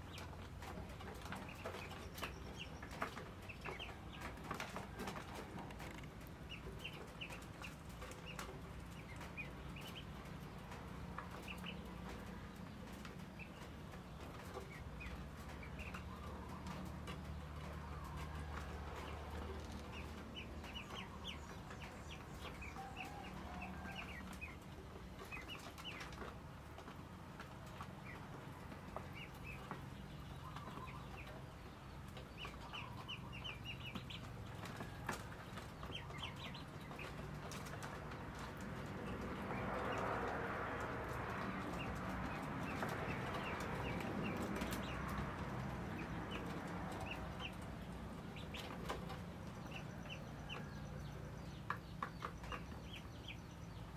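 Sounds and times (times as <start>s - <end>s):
chickens chirping and clucking: 0.0s - 53.9s.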